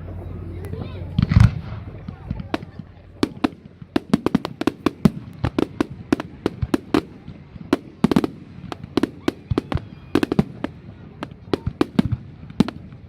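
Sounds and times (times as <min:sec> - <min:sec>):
fireworks banging and cracking: 0:00.0 - 0:13.0.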